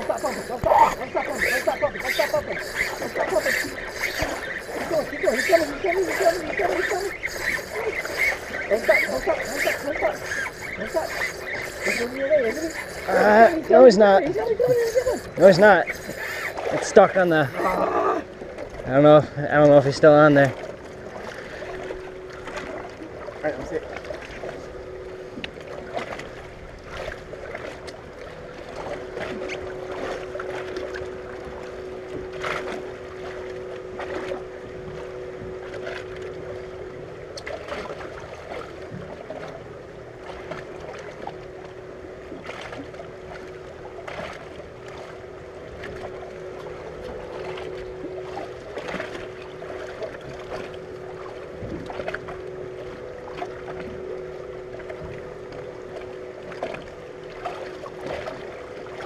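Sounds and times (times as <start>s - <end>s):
boat motor humming: 0.0s - 59.0s
water lapping against hull: 0.0s - 59.0s
wind: 0.0s - 59.0s.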